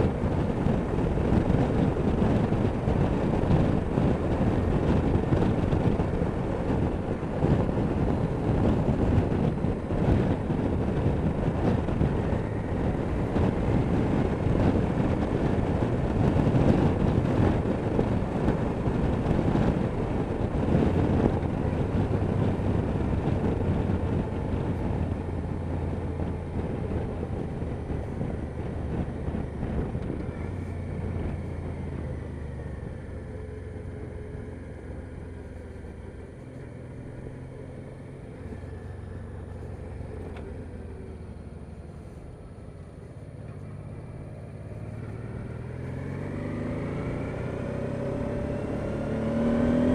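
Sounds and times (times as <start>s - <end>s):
motorcycle engine running: 0.0s - 49.9s
wind rushing over microphone: 0.0s - 49.9s.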